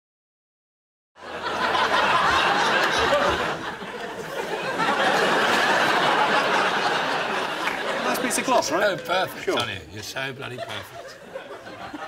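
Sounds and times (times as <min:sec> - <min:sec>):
audience laughing: 0:01.2 - 0:12.0.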